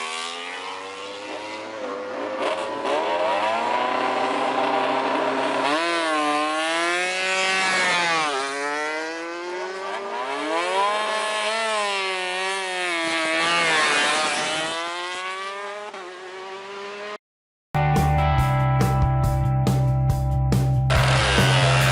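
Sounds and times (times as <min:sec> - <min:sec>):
racing motorcycle engine revving: 0:00.0 - 0:17.2, 0:20.9 - 0:21.9.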